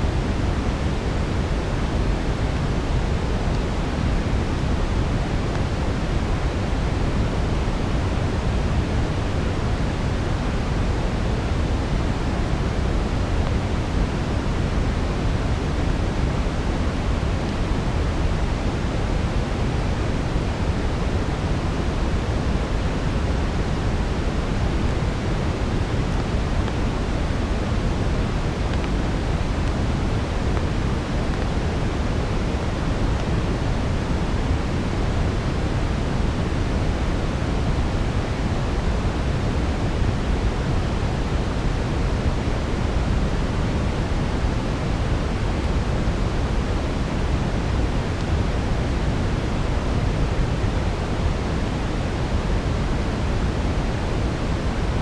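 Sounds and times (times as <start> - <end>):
brown noise: 0.0 - 55.0.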